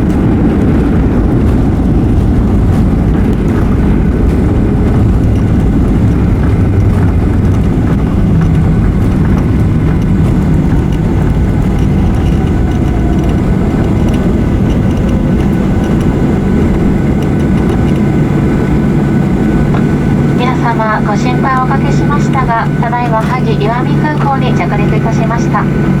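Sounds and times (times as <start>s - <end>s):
jet engine rumble: 0.0s - 26.0s
wind buffeting microphone: 0.0s - 26.0s.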